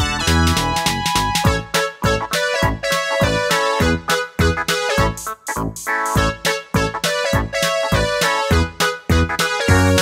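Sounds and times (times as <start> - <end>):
keyboard notes: 0.0 - 10.0
music with steady beat: 0.0 - 10.0.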